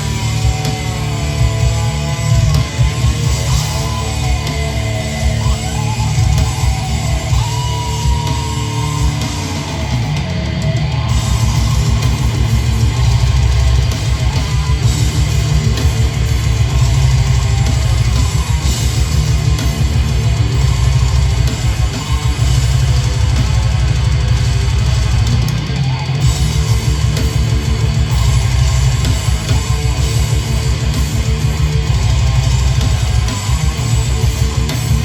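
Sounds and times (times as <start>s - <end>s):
distorted electric guitars: 0.0s - 35.0s
fast dense drumming: 0.0s - 35.0s.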